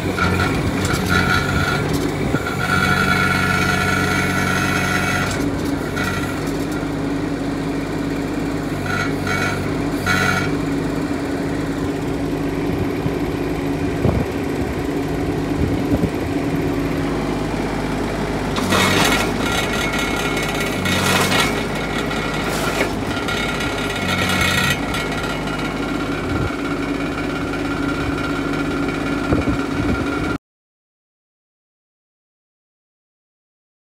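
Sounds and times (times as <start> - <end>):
excavator diesel engine running: 0.0 - 30.4.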